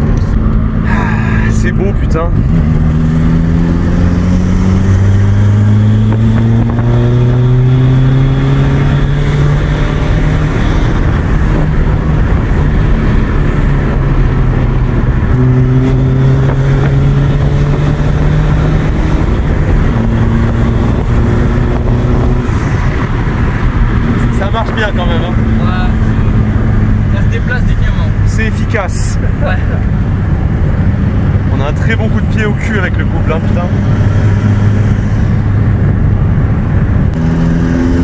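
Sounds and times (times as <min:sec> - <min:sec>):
road noise: 0:00.0 - 0:38.0
turbodiesel car engine under load: 0:00.0 - 0:38.0.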